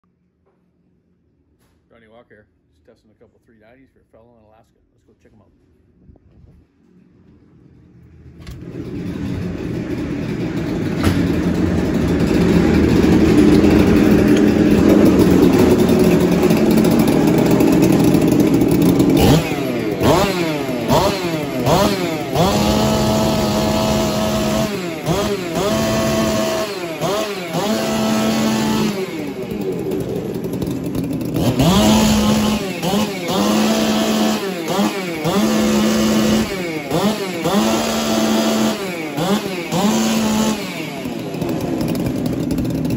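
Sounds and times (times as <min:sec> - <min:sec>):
chainsaws revving: 0:08.5 - 0:42.9.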